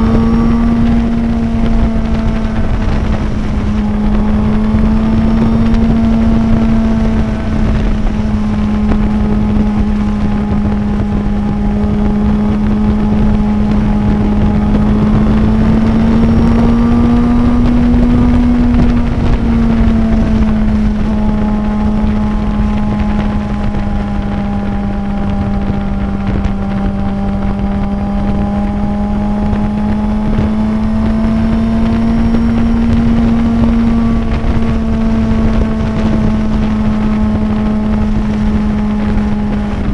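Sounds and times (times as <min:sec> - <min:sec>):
motorcycle engine at high rpm: 0:00.0 - 0:39.9
wind rushing over microphone: 0:00.0 - 0:39.9.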